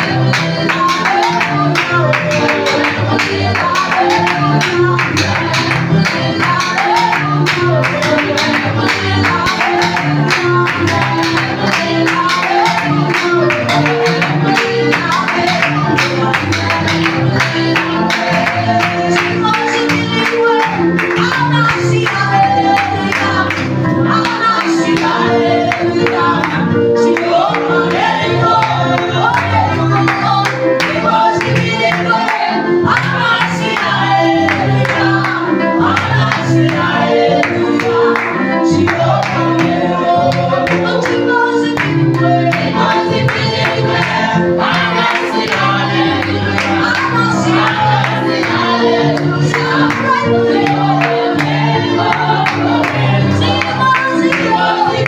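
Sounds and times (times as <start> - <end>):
backing band with steady beat: 0.0 - 55.0
group of singers: 0.0 - 55.0.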